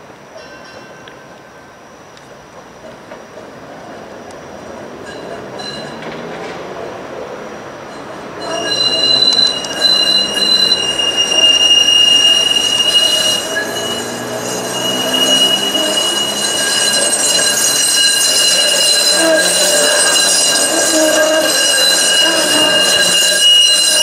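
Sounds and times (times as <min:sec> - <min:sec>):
streetcar wheels squealing: 0:02.6 - 0:24.0.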